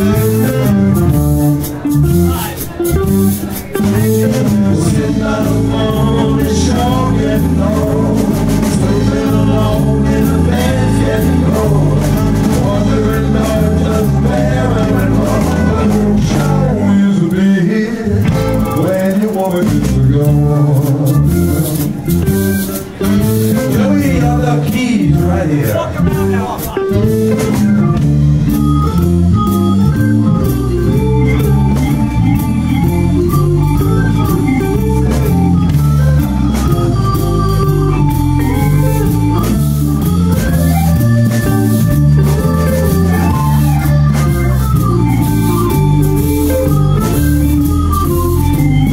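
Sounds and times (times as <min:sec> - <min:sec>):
drum kit: 0:00.0 - 0:48.9
electric guitar: 0:00.0 - 0:48.9
live blues band playing: 0:00.0 - 0:48.9.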